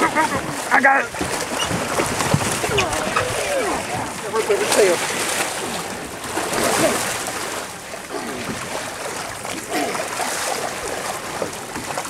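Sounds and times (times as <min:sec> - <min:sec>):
shark thrashing in water: 0:00.0 - 0:12.0
water splashing and sloshing: 0:00.0 - 0:12.0.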